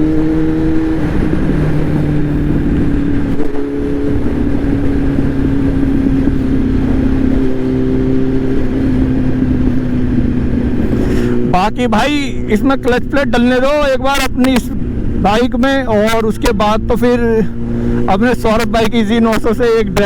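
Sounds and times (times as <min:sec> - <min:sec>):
motorcycle engine cruising: 0:00.0 - 0:20.0
wind rumbling over microphone: 0:00.0 - 0:20.0.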